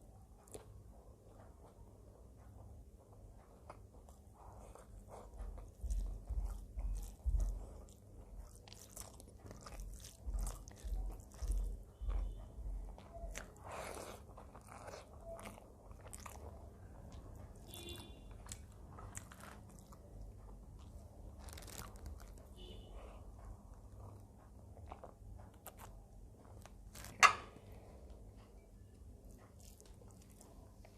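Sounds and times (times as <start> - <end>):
person chewing food: 0.4 - 30.9.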